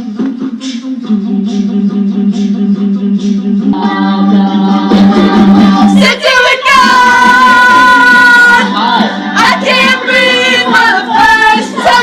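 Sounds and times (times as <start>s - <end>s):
person singing a song: 0.0s - 12.0s.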